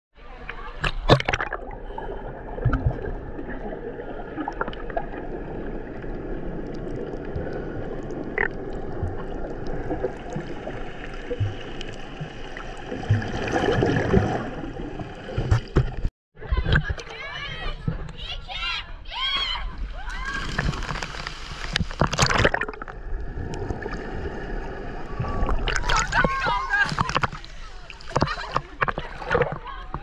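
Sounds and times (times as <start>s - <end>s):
sea water splashing and sloshing: 0.3s - 17.2s, 19.7s - 30.0s.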